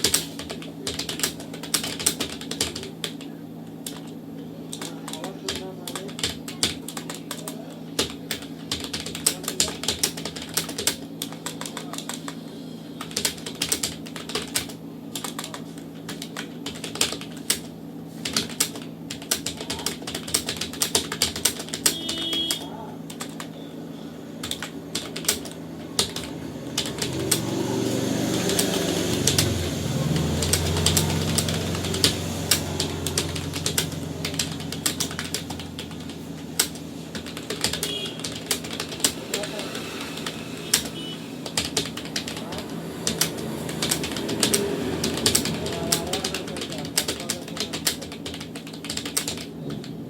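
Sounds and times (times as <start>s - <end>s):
keyboard typing clicks: 0.0s - 12.4s, 13.0s - 23.6s, 24.4s - 39.6s, 40.2s - 49.9s
steady low hum: 0.0s - 50.0s.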